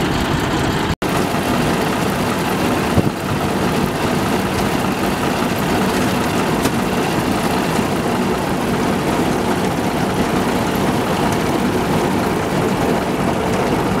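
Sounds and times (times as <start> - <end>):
harvester engine droning: 0.0 - 14.0.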